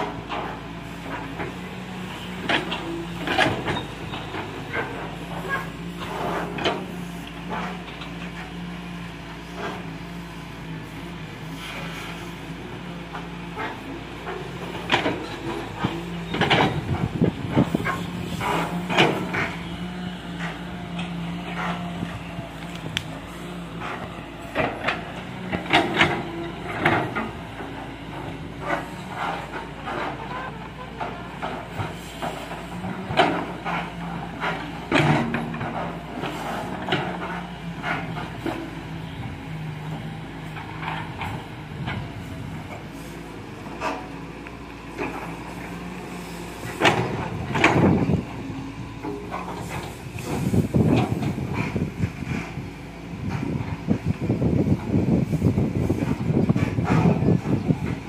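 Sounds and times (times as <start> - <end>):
excavator diesel engine running: 0.0 - 58.0
soil and rock clattering: 0.0 - 58.0.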